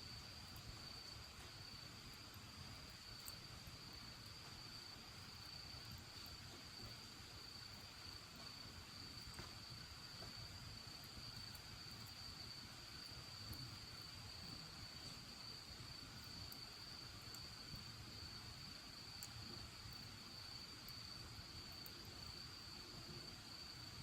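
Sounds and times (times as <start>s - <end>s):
fire crackling pops: 0.4s - 21.0s.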